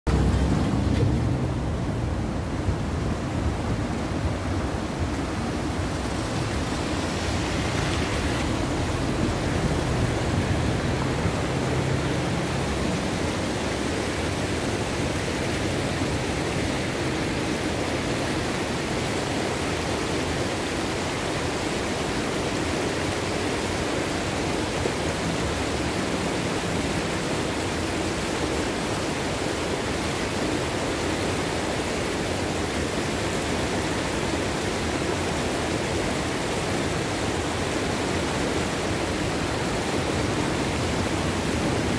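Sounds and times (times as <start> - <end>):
water rushing over rocks: 0.1 - 41.9.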